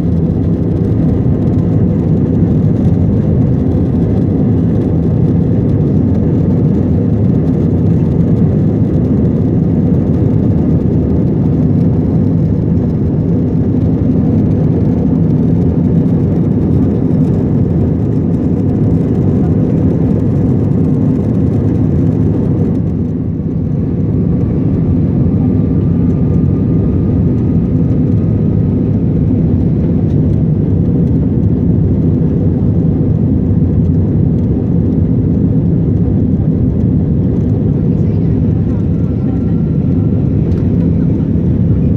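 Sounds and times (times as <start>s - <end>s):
airliner engine noise in cabin: 0.0s - 41.9s.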